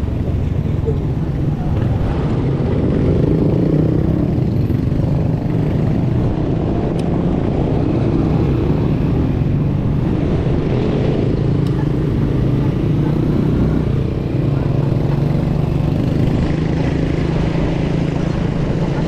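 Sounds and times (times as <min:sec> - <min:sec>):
road noise: 0:00.0 - 0:19.0
wind rumble: 0:00.0 - 0:19.0.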